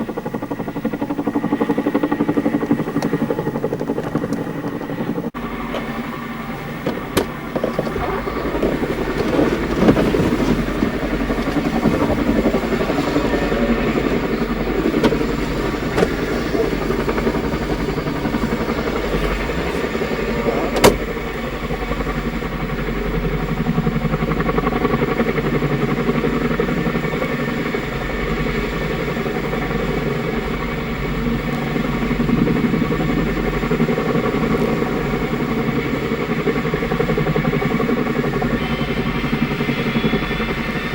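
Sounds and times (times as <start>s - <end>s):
helicopter drone: 0.0s - 40.9s.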